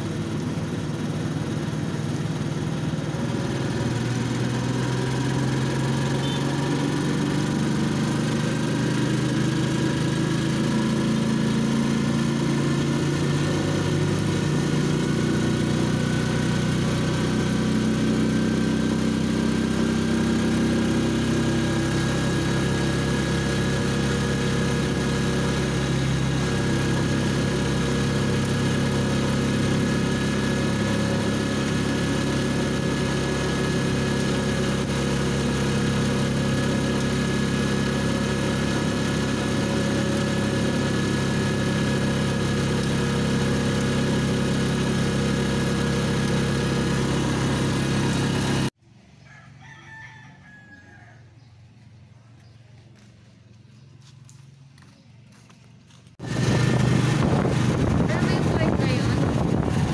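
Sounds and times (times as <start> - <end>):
vehicle engine running: 0.0 - 49.2, 51.4 - 59.9
road noise: 0.0 - 59.9.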